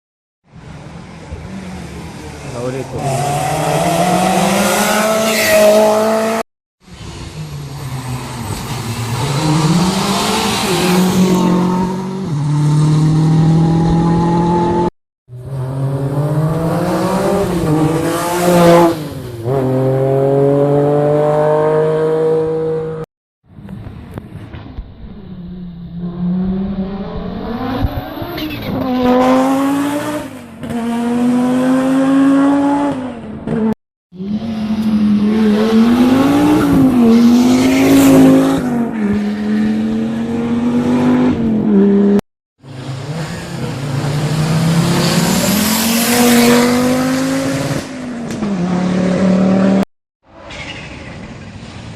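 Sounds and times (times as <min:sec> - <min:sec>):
rally car engines revving hard: 0:01.3 - 0:06.4, 0:07.2 - 0:23.0, 0:25.9 - 0:49.9.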